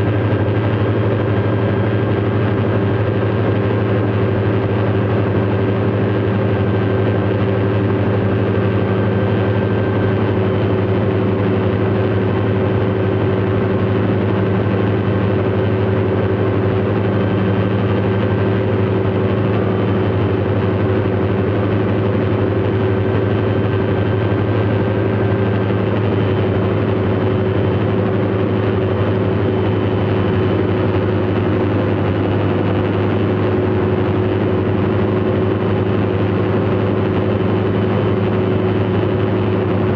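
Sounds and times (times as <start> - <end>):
propeller engine droning: 0.0 - 39.9.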